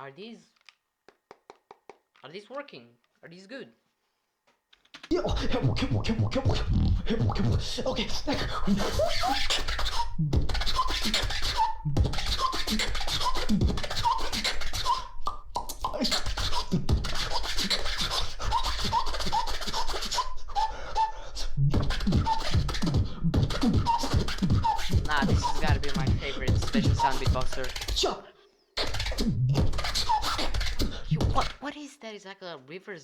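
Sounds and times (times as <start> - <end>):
beatboxing vocal percussion: 1.1 - 2.1, 4.9 - 31.8.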